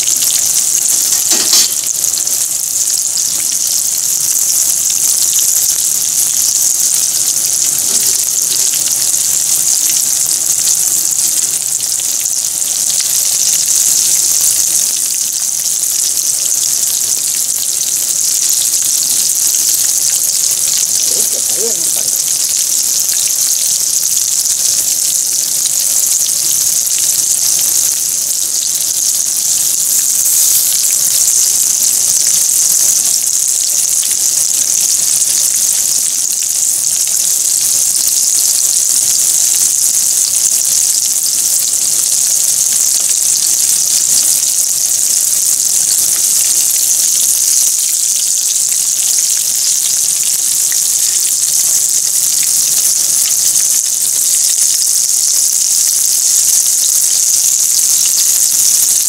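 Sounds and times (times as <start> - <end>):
oil sizzling in a frying pan: 0.0 - 59.0.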